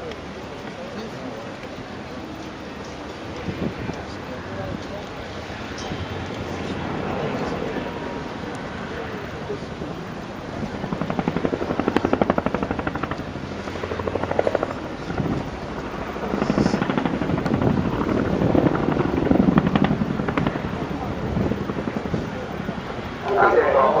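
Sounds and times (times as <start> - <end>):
helicopter rotor blades beating: 0.0 - 24.0.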